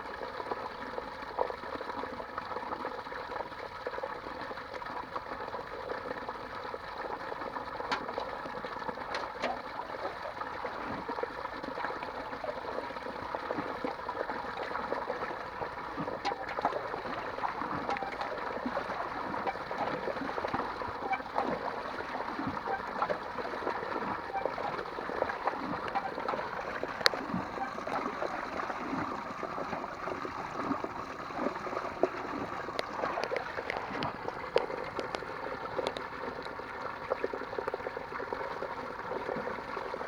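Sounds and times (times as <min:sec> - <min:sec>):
water running and gurgling: 0:00.0 - 0:40.0.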